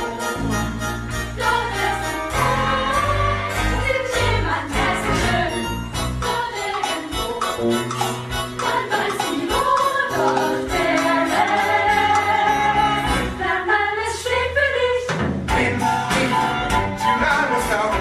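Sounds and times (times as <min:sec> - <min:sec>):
upbeat show tune with band: 0:00.0 - 0:13.7, 0:15.1 - 0:18.0
choir singing held notes: 0:00.0 - 0:18.0.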